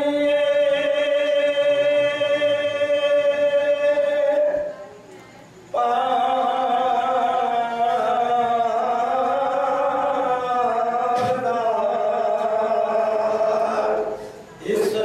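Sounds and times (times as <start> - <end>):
man chanting: 0.0 - 4.8, 5.8 - 15.0.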